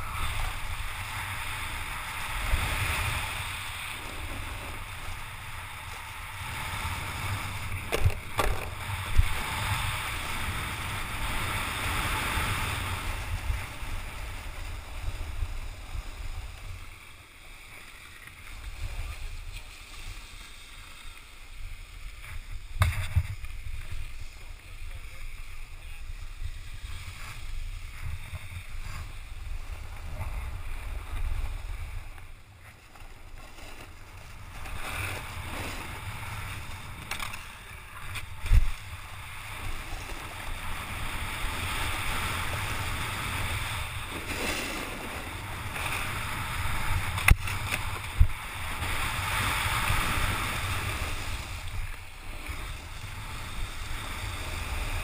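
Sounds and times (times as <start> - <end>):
skis scraping over snow: 0.0 - 55.0
wind rumbling on microphone: 0.0 - 55.0.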